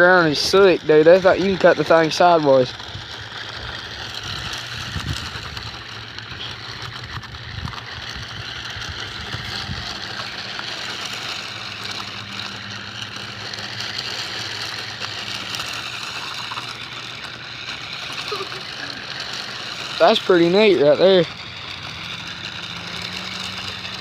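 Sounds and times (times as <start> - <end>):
rc car motor whining: 0.0 - 24.0
steady low hum: 0.0 - 24.0.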